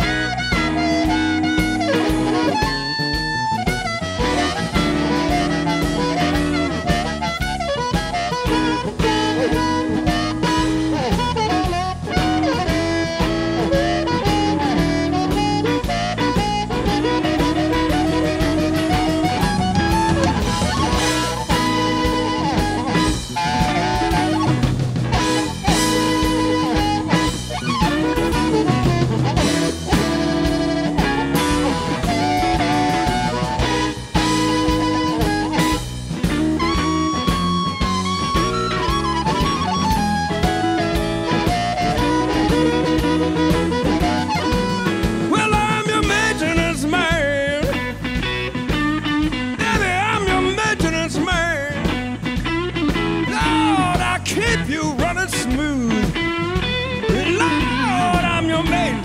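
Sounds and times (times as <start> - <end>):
bass guitar: 0.0 - 59.0
drum kit: 0.0 - 59.0
lead guitar with bent notes: 0.0 - 59.0.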